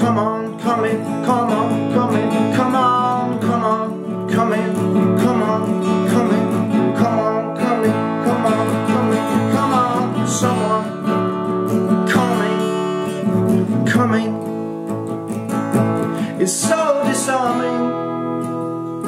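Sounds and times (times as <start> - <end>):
acoustic guitar strummed: 0.0 - 19.0.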